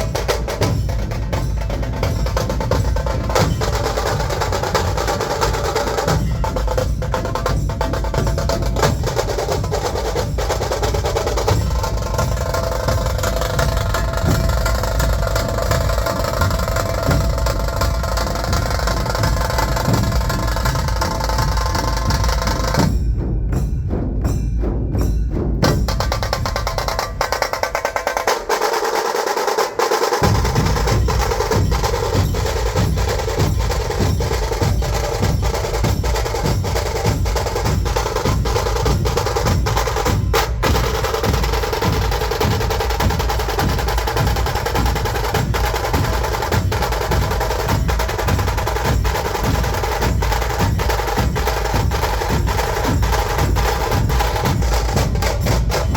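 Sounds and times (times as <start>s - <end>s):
snare drums rattling rolls: 0.0s - 24.2s, 24.8s - 55.9s
deep bass drum beats: 0.0s - 28.8s, 30.2s - 55.9s.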